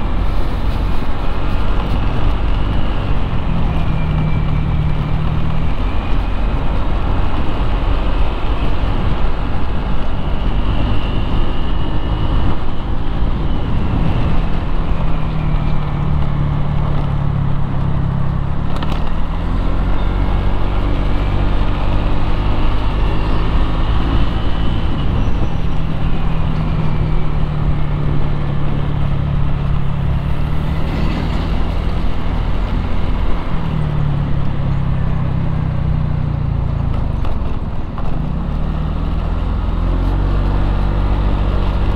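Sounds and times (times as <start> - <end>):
low engine hum: 0.0 - 41.9
vehicles passing by: 0.0 - 41.9.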